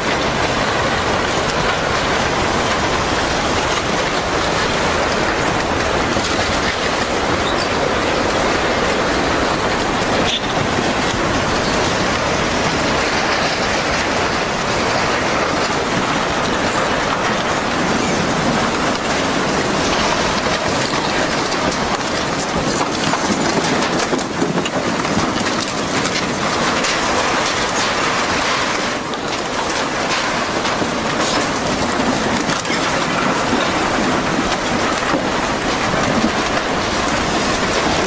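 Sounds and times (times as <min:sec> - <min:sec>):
flood water rushing and crackling: 0:00.0 - 0:38.0.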